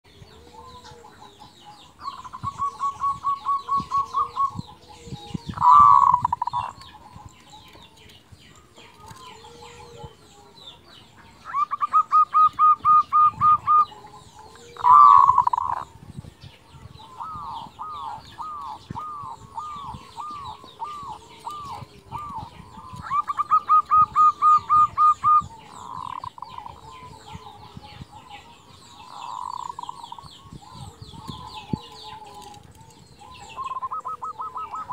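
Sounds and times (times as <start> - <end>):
dove cooing: 0.1 - 7.9, 11.4 - 34.9.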